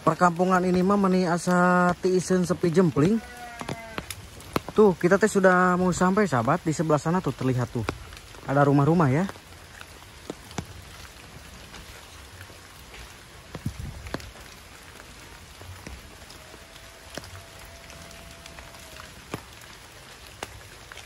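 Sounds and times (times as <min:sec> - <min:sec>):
heavy drops tapping leaves: 0:00.0 - 0:21.0
rain on foliage: 0:00.0 - 0:21.0.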